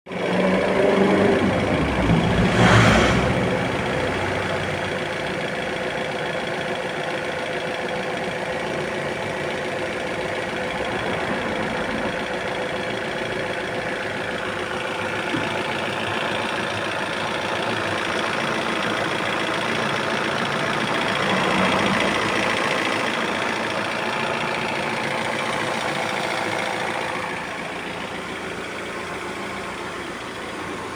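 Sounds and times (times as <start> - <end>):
car engine running: 0.1 - 30.9.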